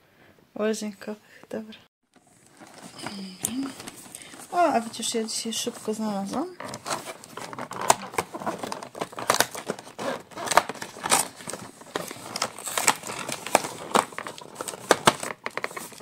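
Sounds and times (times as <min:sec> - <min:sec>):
cardboard tearing and crinkling: 0:02.2 - 0:16.0.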